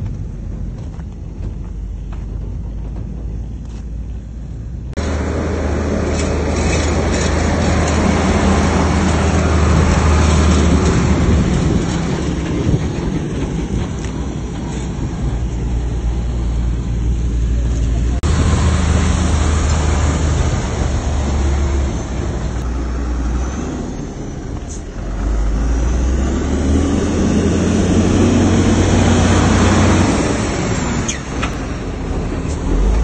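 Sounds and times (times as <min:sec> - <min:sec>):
heavy diesel machinery rumbling: 0:00.0 - 0:33.0
rushing rattling noise: 0:00.0 - 0:33.0.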